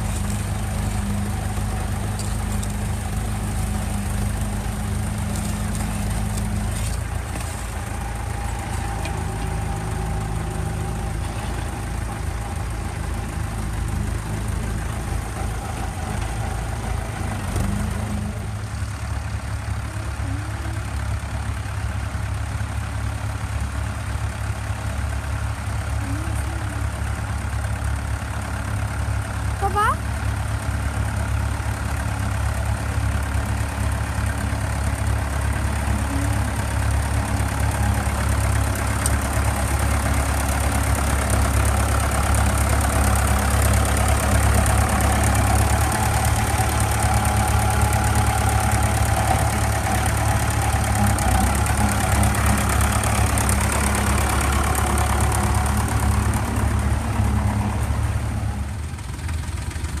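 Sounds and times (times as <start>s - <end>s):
another tractor engine: 0.0s - 60.0s
tractor engine running: 0.0s - 60.0s.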